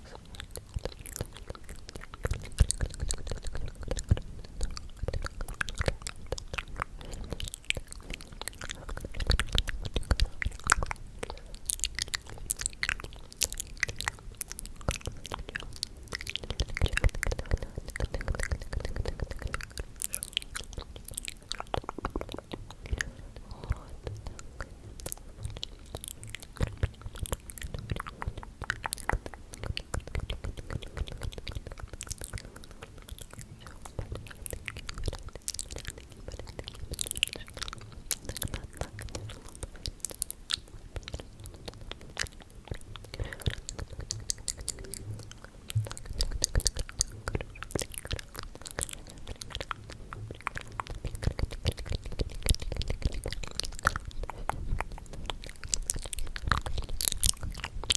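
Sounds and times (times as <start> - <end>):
mouth clicks and smacks: 0.0 - 57.9.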